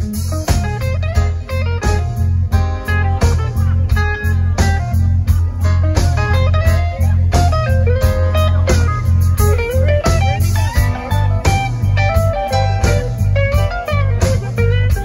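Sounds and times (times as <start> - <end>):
bass guitar: 0.0 - 15.0
drums: 0.0 - 15.0
electric guitar lead: 0.0 - 15.0.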